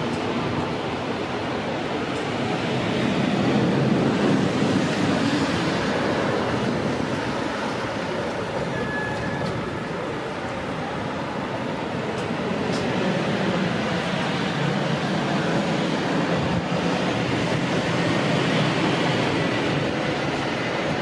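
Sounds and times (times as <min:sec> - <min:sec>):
street traffic din: 0:00.0 - 0:21.0.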